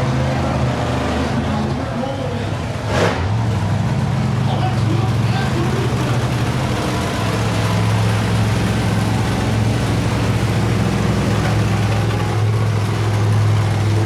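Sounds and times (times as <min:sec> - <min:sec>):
truck engine low drone: 0:00.0 - 0:14.0.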